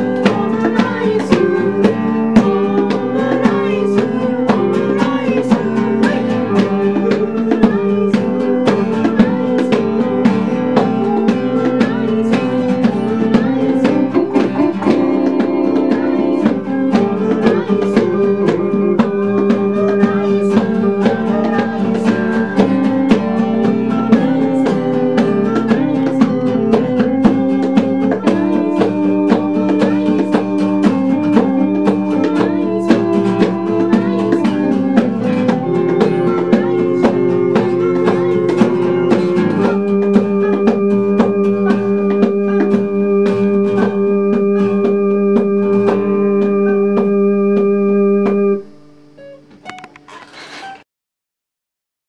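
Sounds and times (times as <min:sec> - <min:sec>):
steady beat: 0:00.0 - 0:48.8
acoustic guitar strumming: 0:00.0 - 0:50.8
held keyboard notes: 0:00.0 - 0:50.8.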